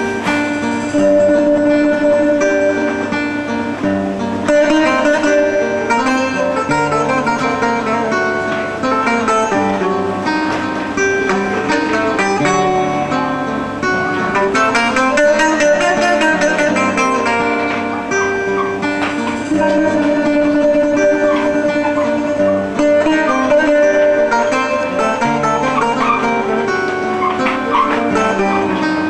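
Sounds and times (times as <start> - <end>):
bouzouki playing: 0.0 - 29.0.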